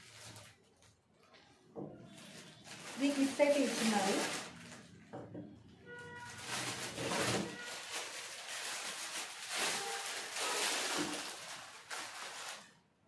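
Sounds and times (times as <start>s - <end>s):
plastic wrapping crinkling: 0.0s - 5.0s, 6.0s - 13.0s.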